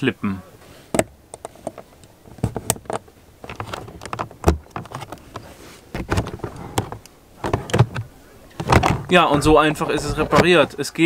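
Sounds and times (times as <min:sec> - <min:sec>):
clicks of plastic and metal parts: 0:00.9 - 0:10.6.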